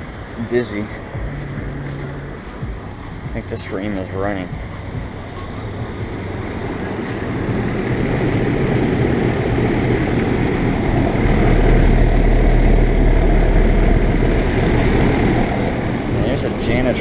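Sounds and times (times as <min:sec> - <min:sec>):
deep low rumble: 0:00.0 - 0:16.2
air conditioner fan whoosh: 0:00.0 - 0:17.0
low compressor hum: 0:00.0 - 0:17.0.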